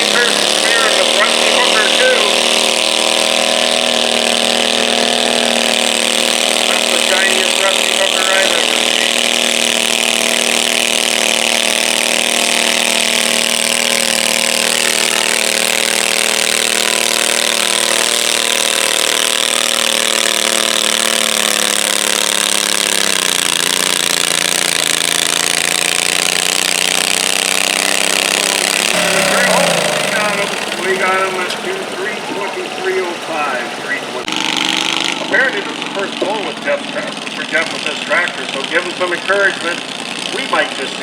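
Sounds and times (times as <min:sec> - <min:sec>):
garden tractor engine high-revving: 0:00.0 - 0:41.0.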